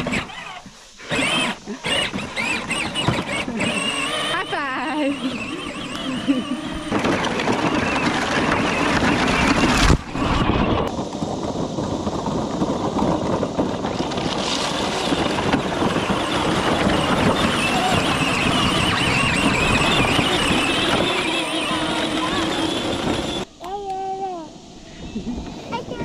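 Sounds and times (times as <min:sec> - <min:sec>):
toy electric drive running: 0:00.0 - 0:11.6, 0:12.2 - 0:23.8
wheels churning through mud: 0:00.0 - 0:23.5.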